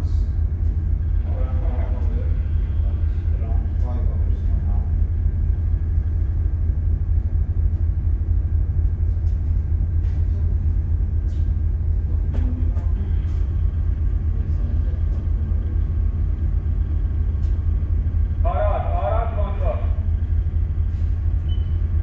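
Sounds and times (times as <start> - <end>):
ship engine rumble: 0.0 - 22.0.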